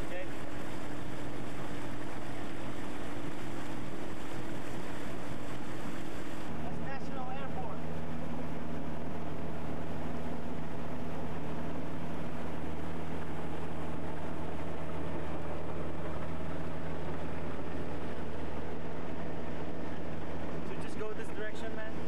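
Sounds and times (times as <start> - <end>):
motorboat engine humming: 0.0 - 22.0
water and wind rushing: 0.0 - 22.0.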